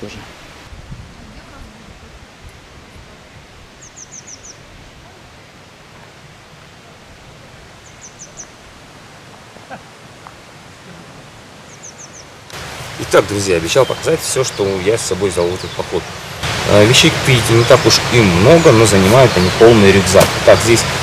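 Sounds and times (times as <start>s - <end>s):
wind in trees: 0.0s - 21.0s
songbird singing: 0.8s - 21.0s.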